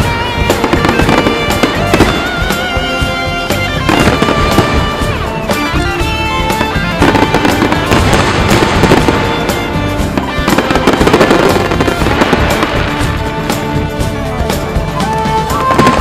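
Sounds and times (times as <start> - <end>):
fireworks bangs and crackles: 0.0 - 16.0
music playing: 0.0 - 16.0.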